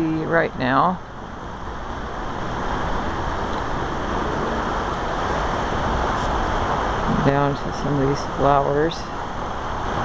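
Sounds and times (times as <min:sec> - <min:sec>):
river rushing: 0:01.0 - 0:10.0.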